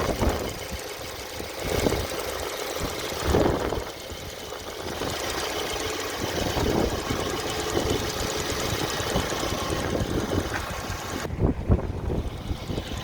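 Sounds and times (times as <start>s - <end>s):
engine knocking: 0.0s - 11.3s, 11.9s - 13.0s
car engine running: 0.0s - 13.0s.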